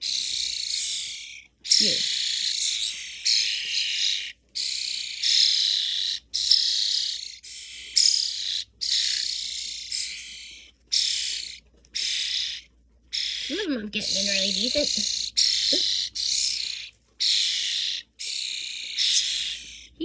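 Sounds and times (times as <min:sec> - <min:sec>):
young starlings begging calls: 0:00.0 - 0:20.0.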